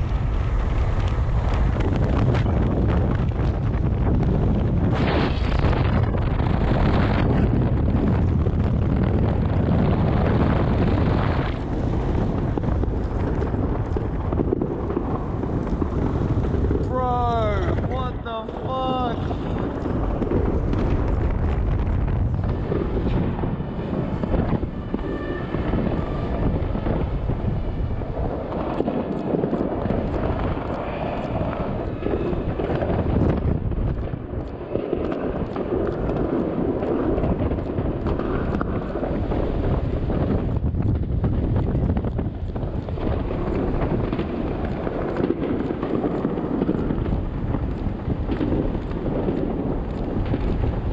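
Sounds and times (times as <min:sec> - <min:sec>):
fireworks bangs and crackle: 0:00.0 - 0:50.9
low rumble: 0:00.0 - 0:50.9
wind on microphone: 0:00.0 - 0:50.9.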